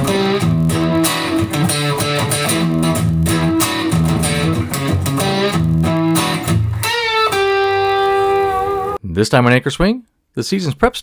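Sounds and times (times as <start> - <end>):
electric guitar over bass and beat: 0.0 - 9.0.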